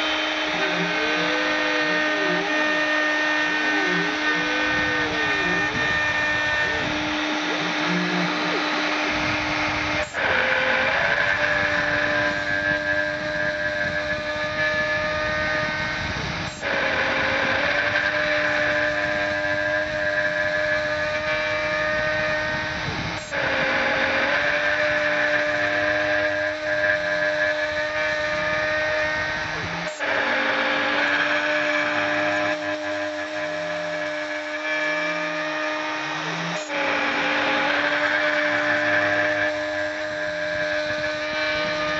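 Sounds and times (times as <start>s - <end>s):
milling machine cutting: 0.0s - 41.9s.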